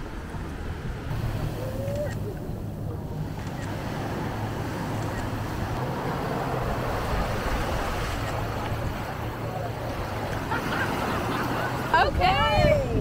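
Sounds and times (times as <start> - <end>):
wind on microphone: 0.0 - 10.6, 11.6 - 13.0
surf breaking on shore: 0.0 - 13.0.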